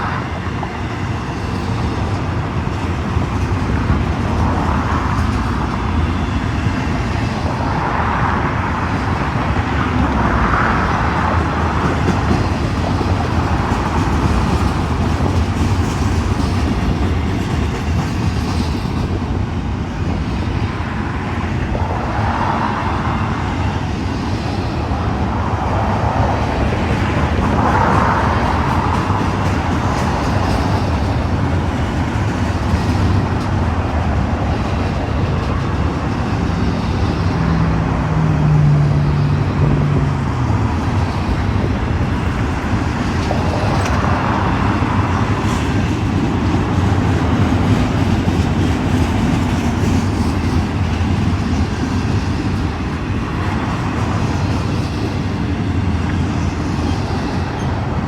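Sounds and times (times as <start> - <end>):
freight train wheels on rail: 0.0 - 58.0.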